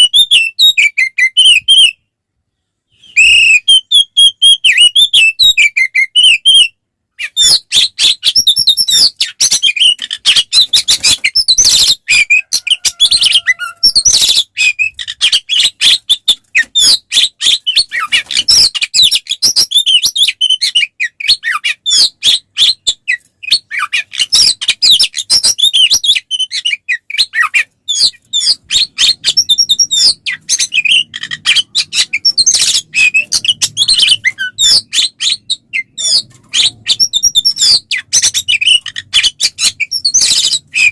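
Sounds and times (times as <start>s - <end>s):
magpie-robin singing: 0.0s - 2.0s, 2.9s - 40.9s.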